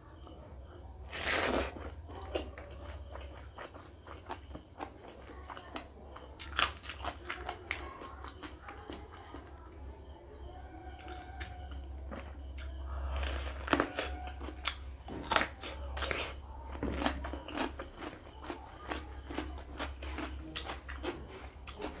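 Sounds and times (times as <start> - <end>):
wet chewing: 0.9 - 9.6, 10.9 - 22.0.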